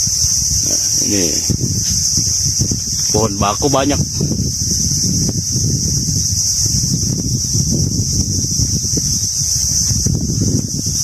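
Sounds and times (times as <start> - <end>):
insects droning: 0.0 - 11.0
wind buffeting microphone: 0.0 - 11.0.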